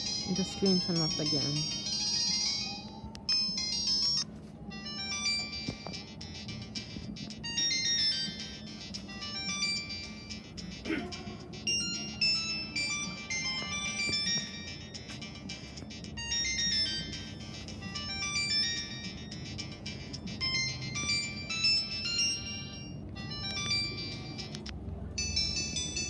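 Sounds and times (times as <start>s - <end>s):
polyphonic phone ringtone: 0.0s - 10.8s, 11.5s - 26.0s.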